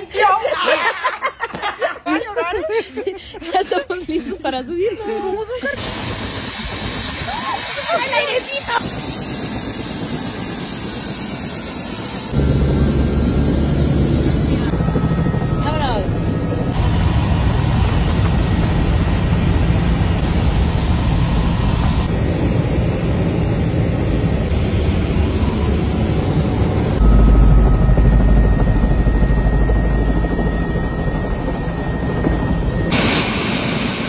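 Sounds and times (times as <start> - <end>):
helicopter engine and rotor drone: 5.6 - 34.0.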